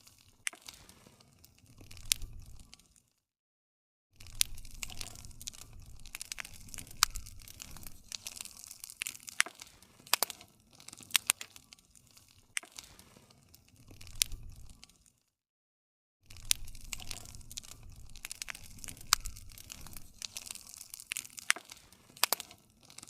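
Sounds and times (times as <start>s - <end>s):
low rumble of flames: 0.0s - 2.9s, 4.2s - 15.0s, 16.3s - 23.0s
wood fire crackling and popping: 0.0s - 3.1s, 4.2s - 15.2s, 16.3s - 23.0s.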